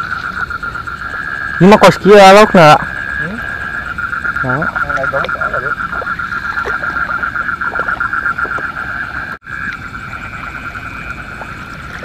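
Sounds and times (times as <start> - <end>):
frogs trilling chorus: 0.0 - 12.0.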